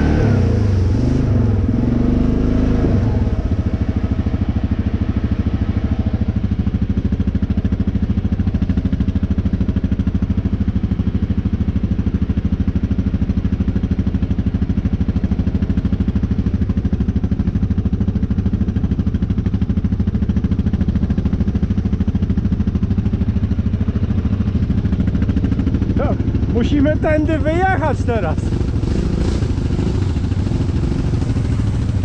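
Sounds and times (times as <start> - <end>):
quad bike engine idling: 0.0 - 32.0.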